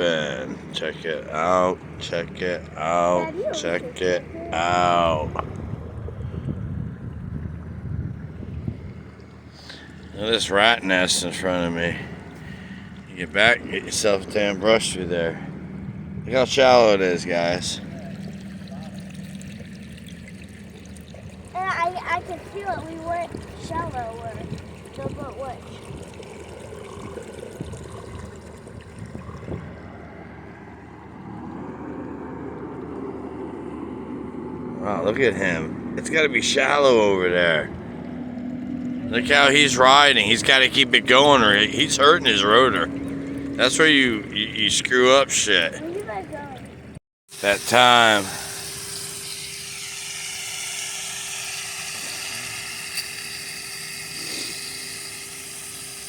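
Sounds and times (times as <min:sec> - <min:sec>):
shallow water lapping: 0:00.0 - 0:34.8, 0:35.7 - 0:47.0
distant motorboat engine hum: 0:00.0 - 0:56.0.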